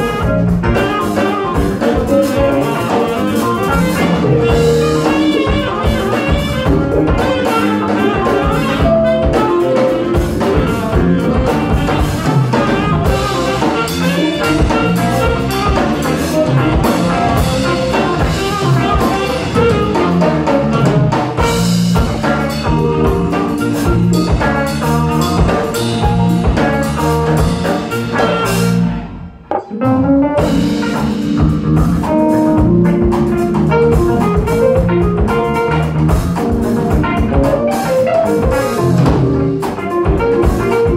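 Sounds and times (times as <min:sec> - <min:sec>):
bass guitar: 0:00.0 - 0:40.9
drum kit: 0:00.0 - 0:40.9
electric guitar: 0:00.0 - 0:40.9
keyboard: 0:00.0 - 0:40.9
saxophone: 0:00.0 - 0:40.9.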